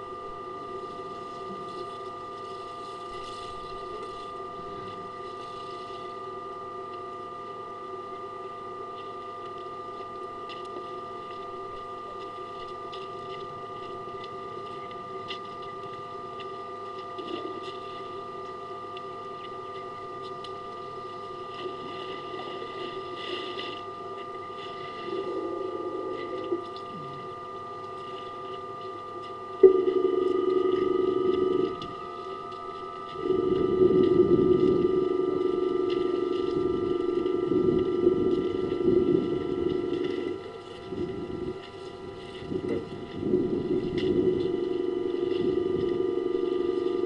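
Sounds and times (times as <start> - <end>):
steady hum of constant tones: 0.0 - 47.0.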